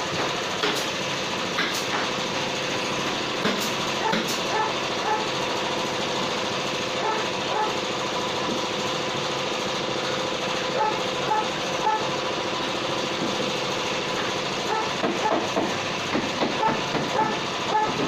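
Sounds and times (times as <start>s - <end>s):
rotisserie motor running: 0.0s - 18.0s.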